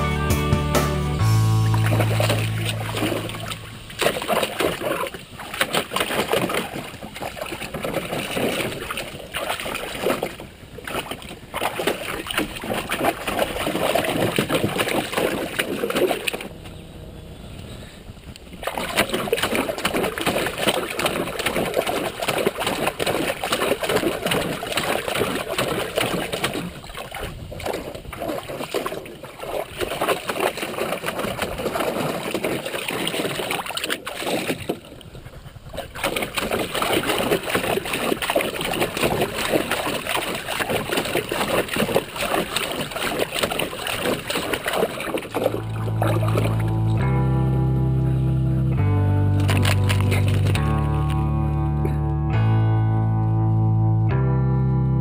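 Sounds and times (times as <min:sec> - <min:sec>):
water splashing in a pool: 0:01.2 - 0:16.6, 0:18.1 - 0:52.0.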